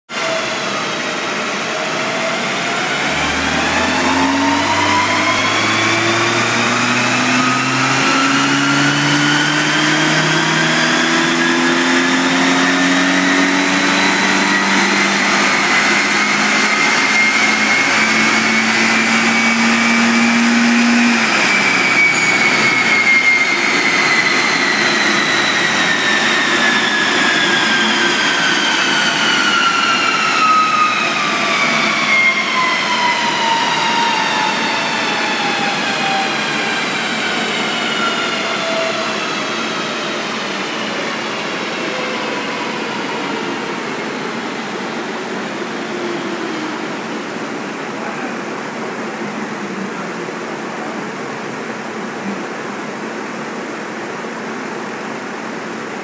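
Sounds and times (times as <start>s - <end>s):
engine revving on dynamometer: 0.1s - 56.0s
whine climbing in pitch: 0.1s - 56.0s.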